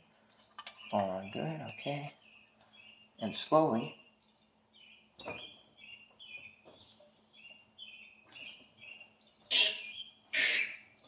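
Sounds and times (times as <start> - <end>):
small bird chirping: 0.2 - 11.0.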